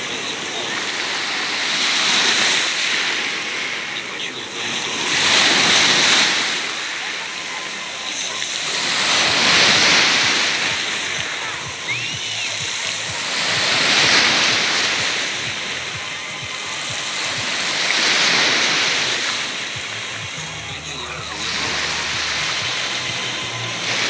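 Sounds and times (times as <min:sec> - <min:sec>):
sea surf breaking: 0:00.0 - 0:24.0.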